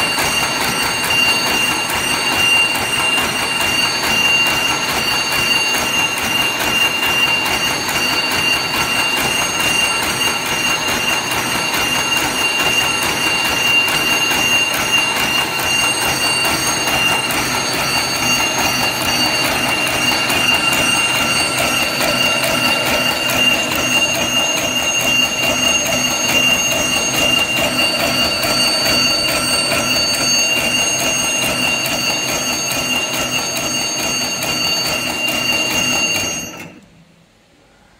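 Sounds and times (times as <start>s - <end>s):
wire machine whining and clattering: 0.0s - 36.9s.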